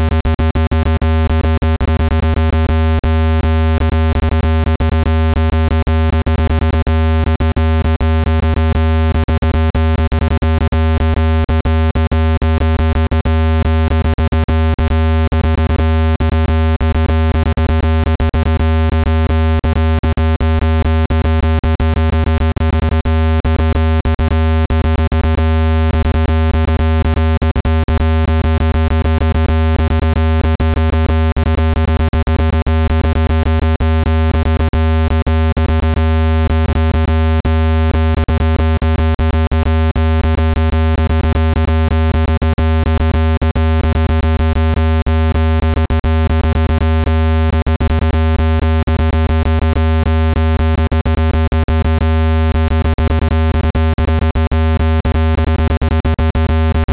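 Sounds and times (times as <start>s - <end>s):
deep buzzy synthesized hum: 0.0s - 56.9s.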